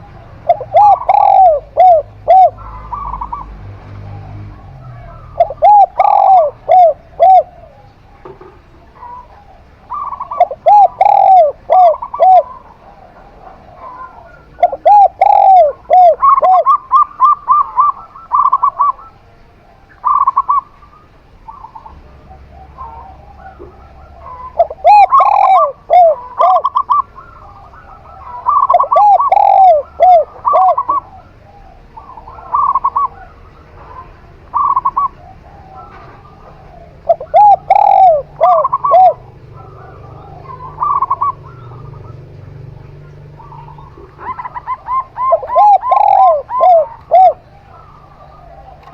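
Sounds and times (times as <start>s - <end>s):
doves cooing: 0.0s - 48.9s.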